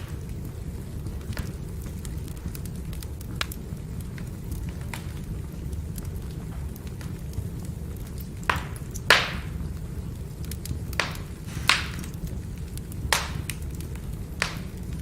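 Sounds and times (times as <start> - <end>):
firewood crackling and popping: 0.0 - 15.0
low rumble of flame: 0.0 - 15.0.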